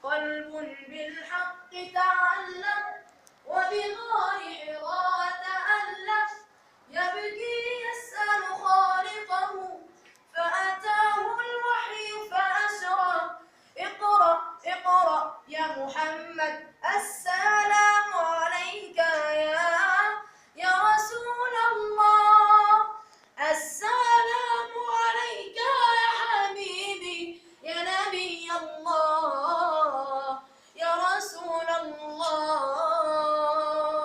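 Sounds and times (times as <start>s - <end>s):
boy singing unaccompanied: 0.0s - 34.0s.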